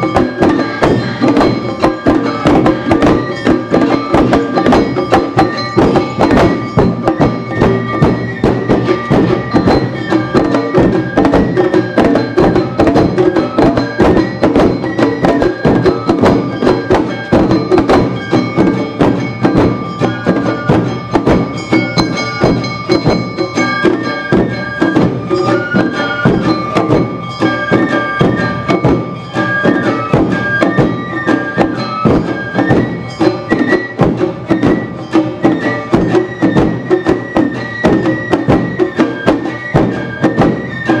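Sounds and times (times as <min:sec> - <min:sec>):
bamboo flute melody: 0:00.0 - 0:41.0
taiko drums beating: 0:00.0 - 0:41.0.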